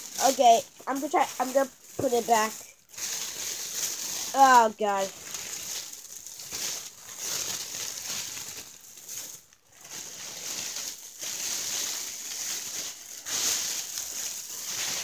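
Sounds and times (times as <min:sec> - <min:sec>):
space blanket crinkling: 0:00.0 - 0:15.0.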